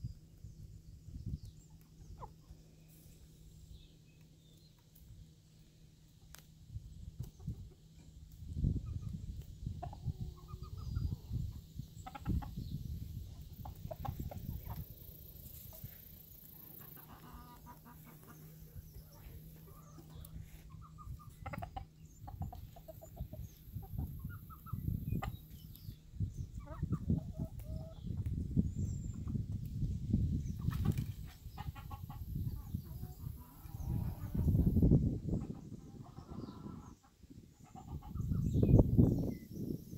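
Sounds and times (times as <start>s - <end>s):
chickens clucking: 1.4s - 2.6s, 7.2s - 29.6s, 30.3s - 39.8s.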